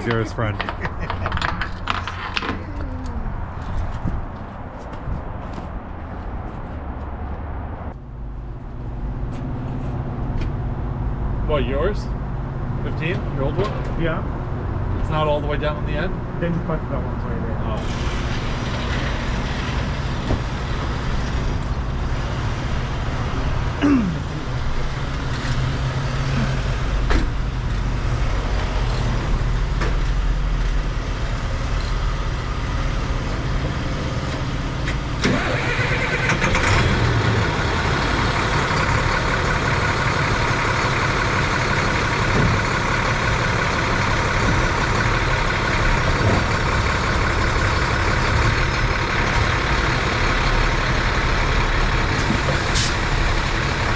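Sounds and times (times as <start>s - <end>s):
diesel engine running: 7.9s - 53.9s.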